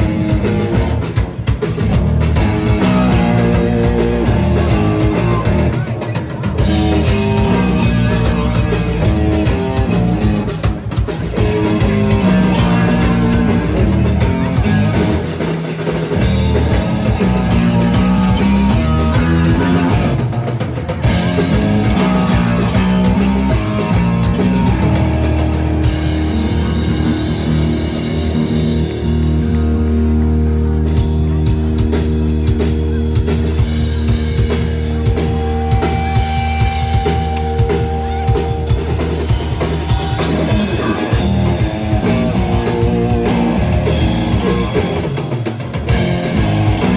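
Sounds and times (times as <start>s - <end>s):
drum kit: 0.0s - 46.9s
electric bass: 0.0s - 46.9s
electric guitar: 0.0s - 46.9s.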